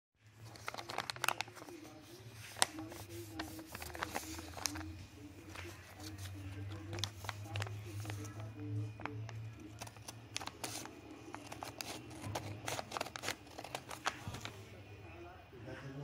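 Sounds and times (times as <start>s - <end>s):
paper crinkling and rustling: 0.4s - 14.7s.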